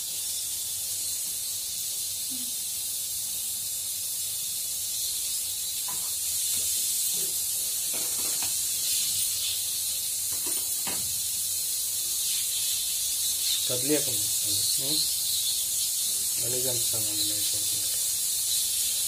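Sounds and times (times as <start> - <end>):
pressure cooker hissing: 0.0 - 19.0.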